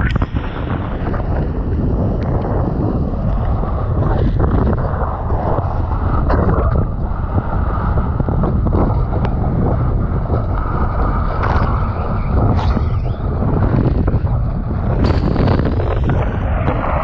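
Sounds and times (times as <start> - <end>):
wind on camera microphone: 0.0 - 17.0.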